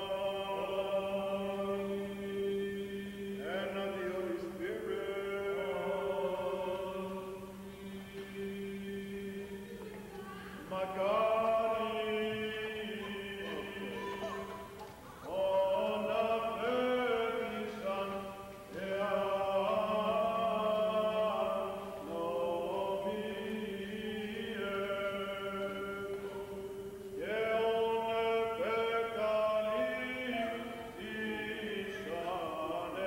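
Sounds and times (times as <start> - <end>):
voices chanting a melody: 0.0 - 33.0.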